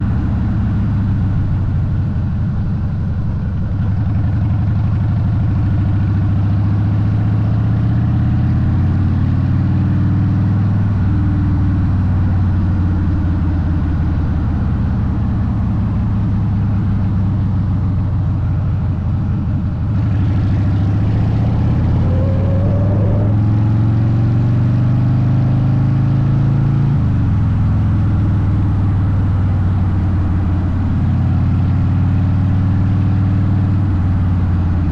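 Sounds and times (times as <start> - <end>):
motorcycle engine at road speed: 0.0 - 34.9.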